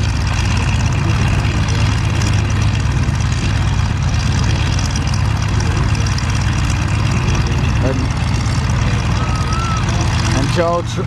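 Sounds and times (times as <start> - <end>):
radial engines idling drone: 0.0 - 11.0.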